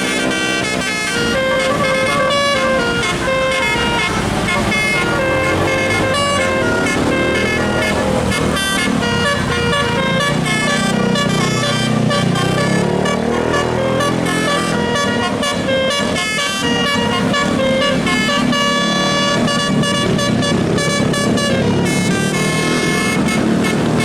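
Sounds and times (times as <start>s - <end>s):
musical air horn melody: 0.0s - 24.0s.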